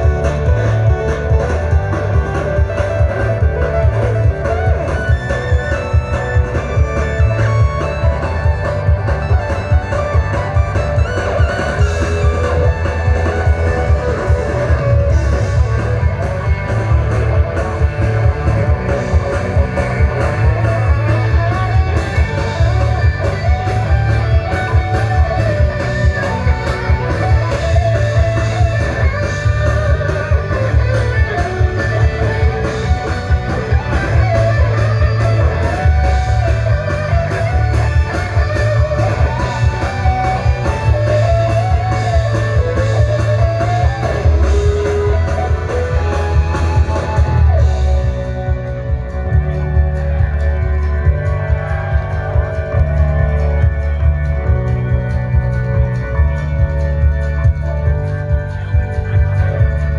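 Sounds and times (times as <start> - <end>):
electric guitar lead line: 0.0 - 59.9
heavy bass: 0.0 - 59.9
steady drum beat: 0.0 - 59.9.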